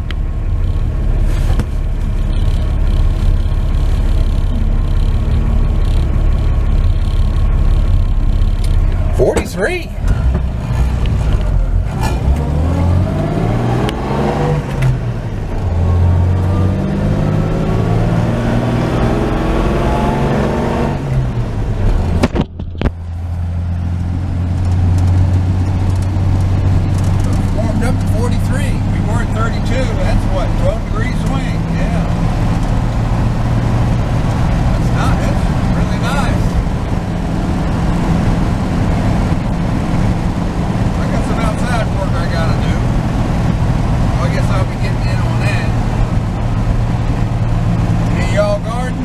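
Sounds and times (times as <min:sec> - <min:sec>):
road noise: 0:00.0 - 0:49.0
truck engine running: 0:00.0 - 0:49.0.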